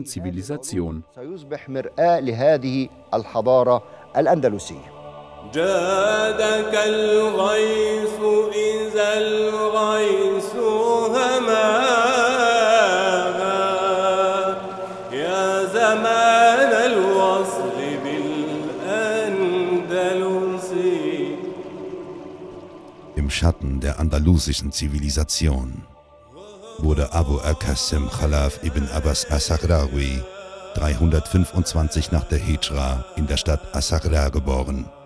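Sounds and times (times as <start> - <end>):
person singing ornamented melody: 2.7 - 35.0.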